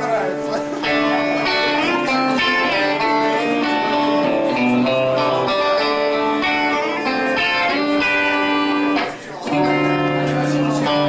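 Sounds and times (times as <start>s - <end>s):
rock guitar chords: 0.0s - 11.0s.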